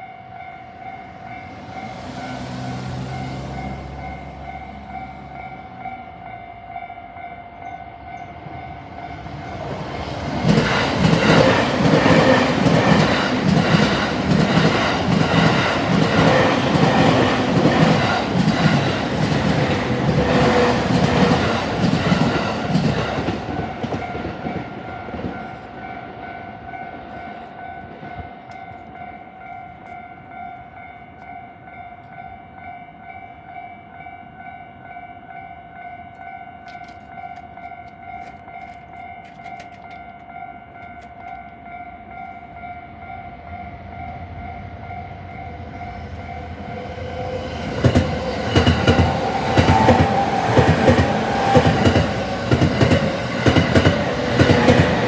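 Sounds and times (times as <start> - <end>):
level crossing warning bells: 0.0 - 55.0.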